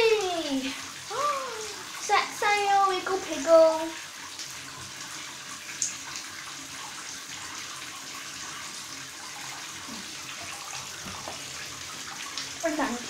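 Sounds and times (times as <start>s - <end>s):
shower water running into bathtub: 0.0s - 13.0s.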